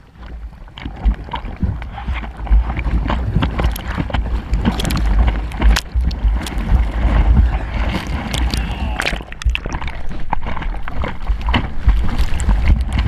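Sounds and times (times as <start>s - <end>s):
seawater splashing: 0.0s - 13.0s
wind rumbling on microphone: 0.0s - 13.0s.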